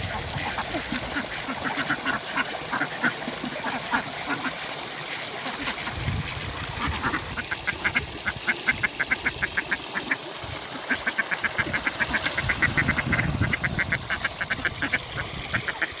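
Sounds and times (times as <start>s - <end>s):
ducks quacking rapidly: 0.2s - 4.6s, 6.8s - 16.0s.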